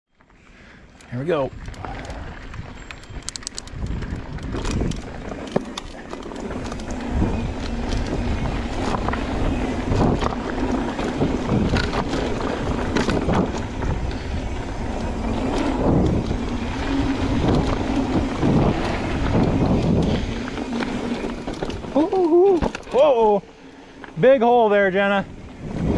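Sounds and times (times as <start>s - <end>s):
bike clicks and knocks: 1.0s - 23.3s
wind buffeting microphone: 1.1s - 23.4s, 25.0s - 25.9s.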